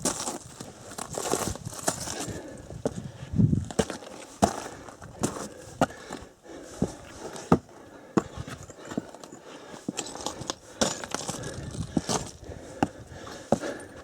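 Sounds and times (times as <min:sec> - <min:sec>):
footsteps crunching on loose rock: 0:00.0 - 0:14.0.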